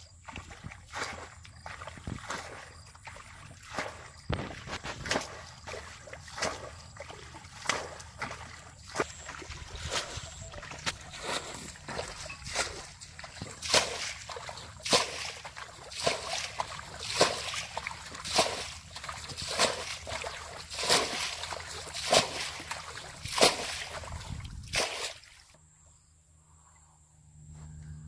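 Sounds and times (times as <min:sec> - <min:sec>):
water splashing from bucket: 0:00.2 - 0:25.6.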